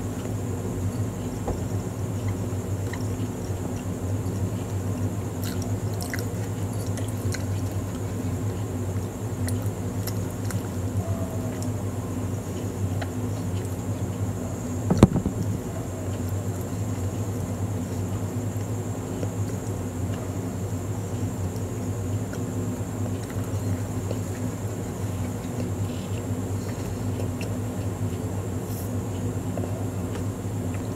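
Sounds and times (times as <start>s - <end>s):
steady background hum: 0.0s - 30.9s
biting and chewing bun: 0.2s - 30.9s.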